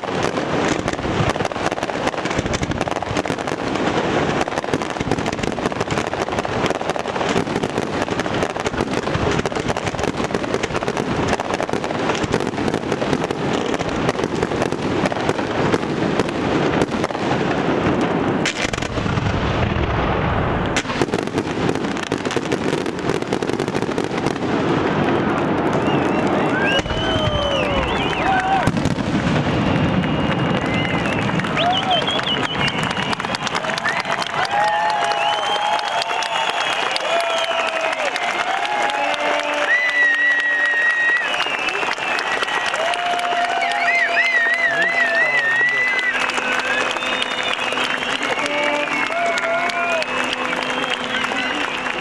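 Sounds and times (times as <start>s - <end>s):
fireworks bursts and crackling: 0.0s - 52.0s.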